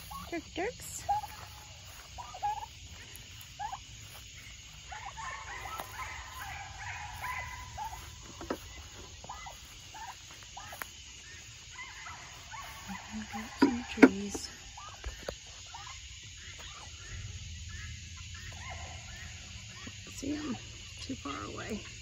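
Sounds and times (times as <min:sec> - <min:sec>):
turkeys calling: 0:00.0 - 0:22.0.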